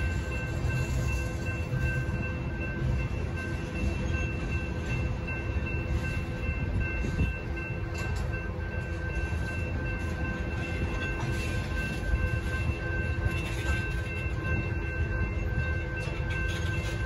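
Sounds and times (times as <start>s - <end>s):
crossing signal bell tones: 0.0s - 17.0s
freight train rumbling: 0.0s - 17.0s.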